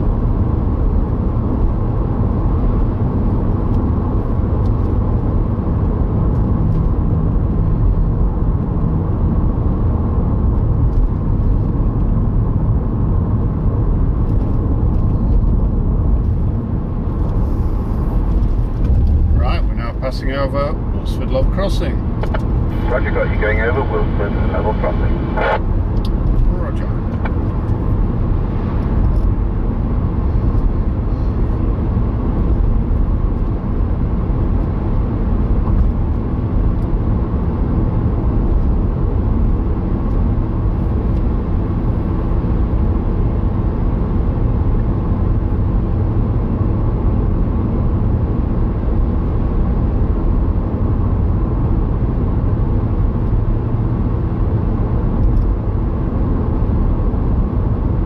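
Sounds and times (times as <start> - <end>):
car interior road rumble: 0.0 - 58.0.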